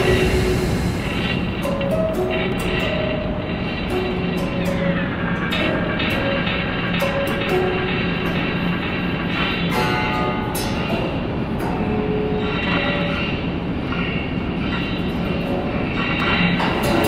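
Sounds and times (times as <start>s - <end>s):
rumbling grinding noise: 0.0s - 17.0s.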